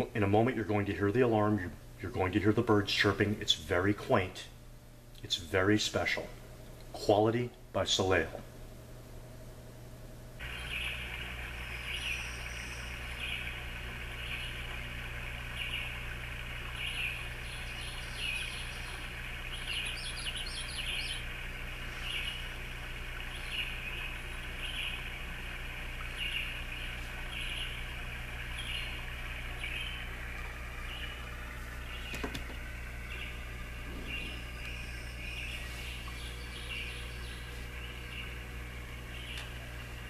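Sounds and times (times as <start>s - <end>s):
recorded birds chirping from speaker: 0.0s - 4.4s, 10.4s - 22.6s, 23.2s - 25.2s, 26.0s - 40.0s
steady low hum: 0.0s - 40.0s.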